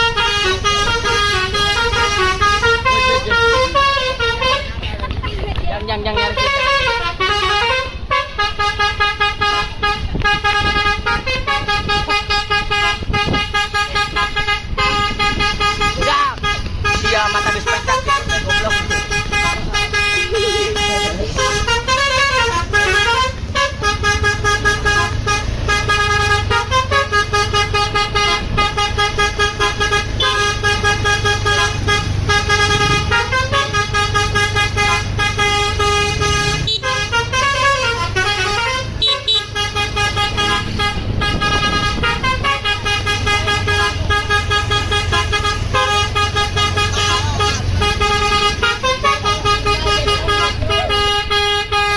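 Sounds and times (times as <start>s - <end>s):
bus musical horn tune: 0.0s - 5.1s, 6.0s - 51.9s
low engine rumble: 0.0s - 51.9s.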